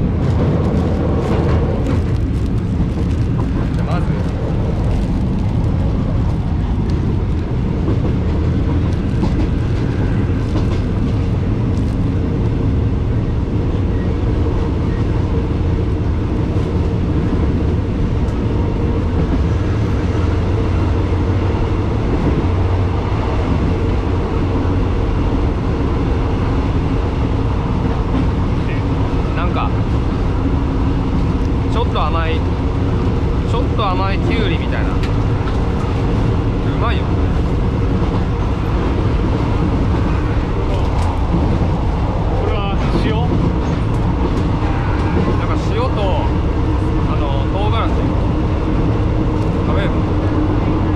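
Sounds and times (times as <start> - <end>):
train rumbling inside carriage: 0.0 - 50.9.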